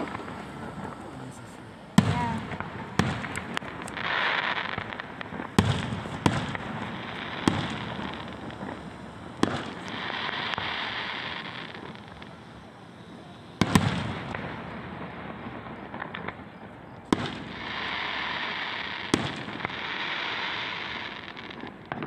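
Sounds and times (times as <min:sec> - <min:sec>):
crackling hiss of bursting shells: 0:00.0 - 0:22.0
fireworks banging: 0:00.0 - 0:22.0.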